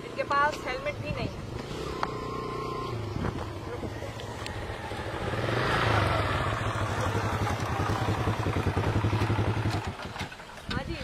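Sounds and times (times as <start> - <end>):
small motorcycle engine: 0.0 - 11.0.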